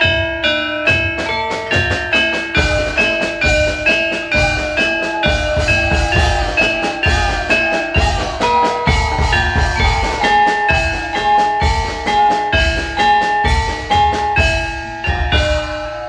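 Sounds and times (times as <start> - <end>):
metallophone melody: 0.0 - 16.0
low drum beats: 0.9 - 16.0.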